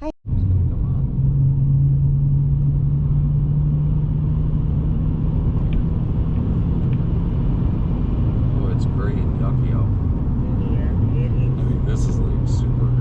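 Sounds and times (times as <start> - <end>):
constant low hum: 0.0 - 13.0
car engine and tyre noise: 0.3 - 13.0.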